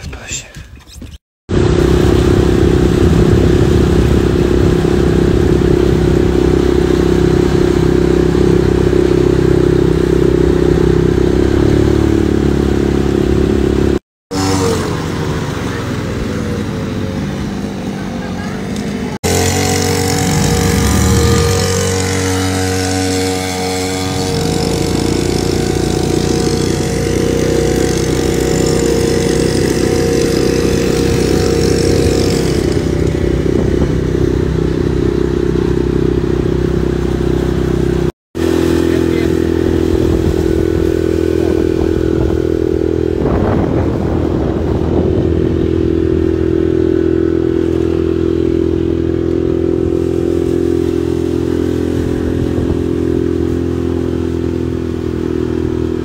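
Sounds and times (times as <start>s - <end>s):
engine running: 1.5s - 56.0s.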